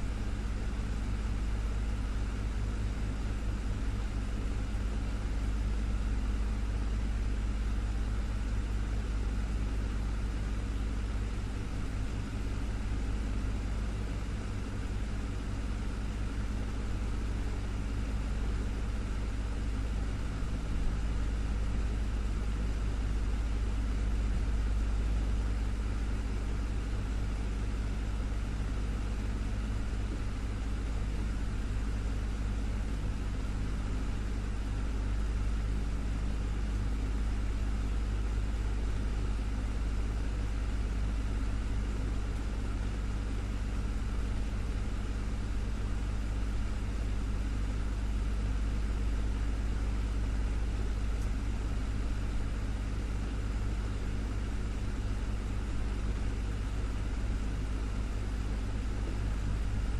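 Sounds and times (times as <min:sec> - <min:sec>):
desktop fan humming: 0:00.0 - 0:59.9.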